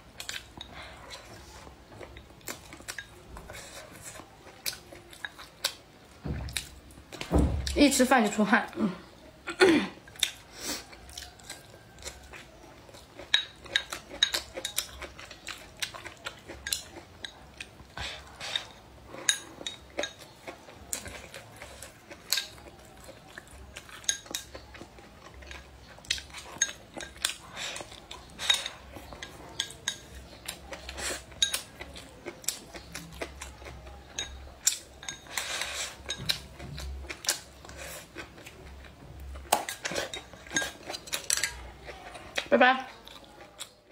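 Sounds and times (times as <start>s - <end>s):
close-up eating sounds: 0.0s - 43.9s.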